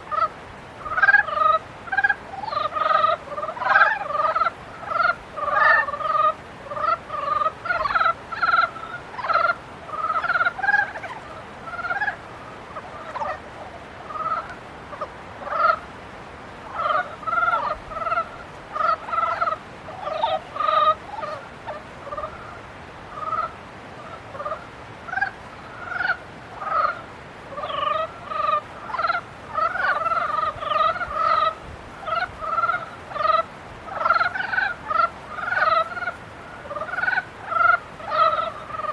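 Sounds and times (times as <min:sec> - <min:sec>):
frogs croaking in chorus: 0:00.0 - 0:16.0, 0:16.6 - 0:38.9.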